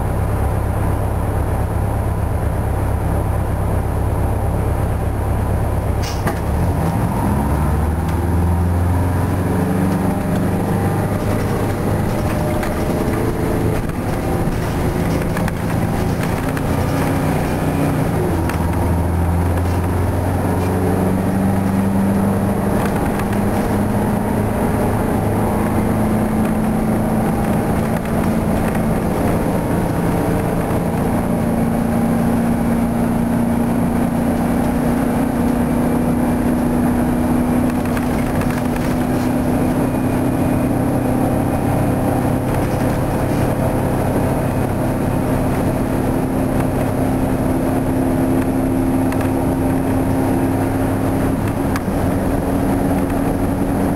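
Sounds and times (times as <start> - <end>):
bus diesel engine accelerating: 0.0 - 53.9.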